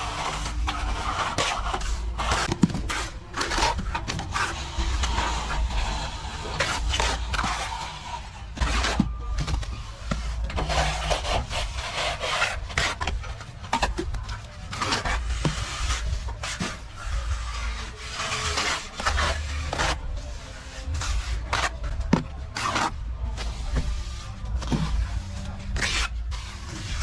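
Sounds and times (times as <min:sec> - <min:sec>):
trowel scraping plaster on wall: 0:00.0 - 0:14.0, 0:14.6 - 0:27.0.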